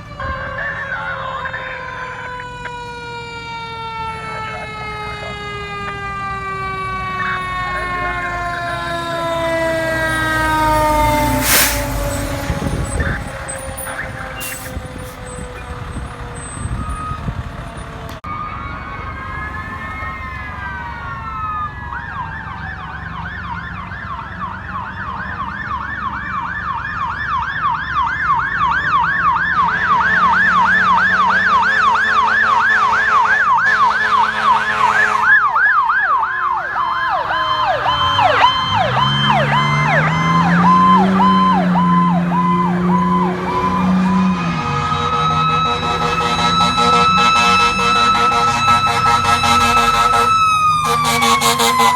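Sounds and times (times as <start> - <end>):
emergency siren wail and yelp: 0.0 - 51.9.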